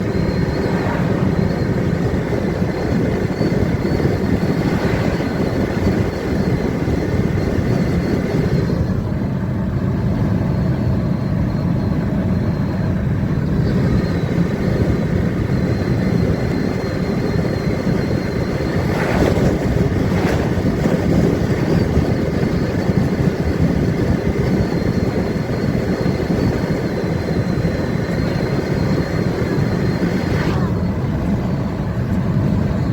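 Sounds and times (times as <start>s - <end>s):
side mirror whistling: 0.0s - 9.0s, 10.8s - 31.6s
road and wind noise: 0.0s - 32.9s.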